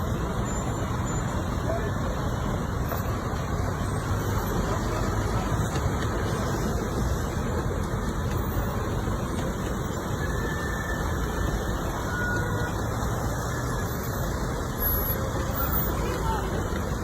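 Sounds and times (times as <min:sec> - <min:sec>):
traffic on wet street: 0:00.0 - 0:17.0.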